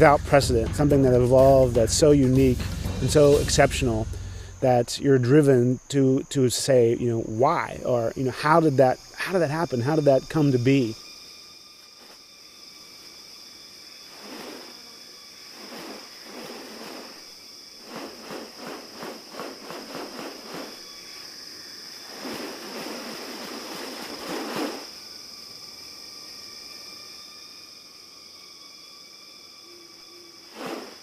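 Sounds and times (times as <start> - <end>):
high-pitched insect drone: 0.0 - 31.0
insect rasping bursts: 1.1 - 31.0.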